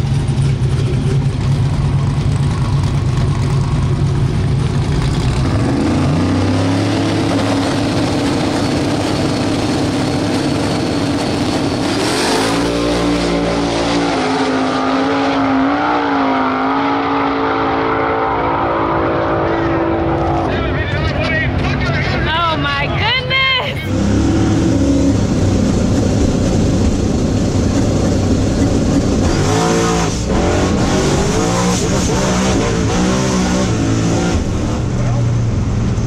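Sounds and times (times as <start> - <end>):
race car engines revving: 0.0 - 36.0.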